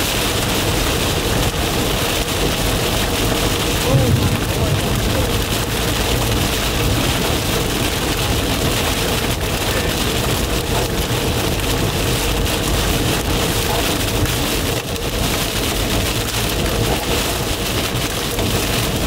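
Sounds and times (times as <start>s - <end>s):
heavy rain drumming on car roof: 0.0s - 19.0s
road and engine rumble: 0.0s - 19.0s.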